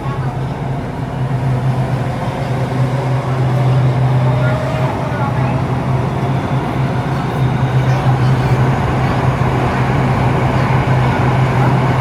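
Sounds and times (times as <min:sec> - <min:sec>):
metro train rolling rumble: 0:00.0 - 0:12.0.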